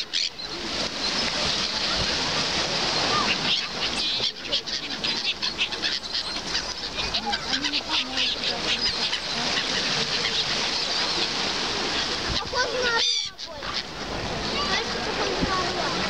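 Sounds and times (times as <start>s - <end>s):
flock of gulls and coots calling: 0.0s - 16.0s.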